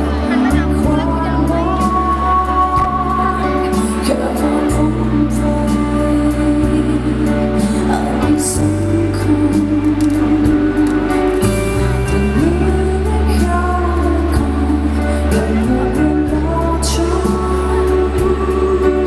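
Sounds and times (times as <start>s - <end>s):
live pop band music: 0.0s - 19.0s.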